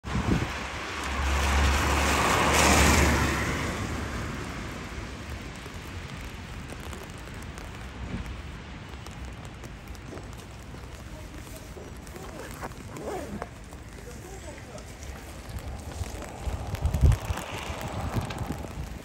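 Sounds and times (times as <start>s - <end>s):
falling sleet and rain: 0.0s - 19.0s
vehicle tyres hissing on wet road: 0.0s - 19.0s.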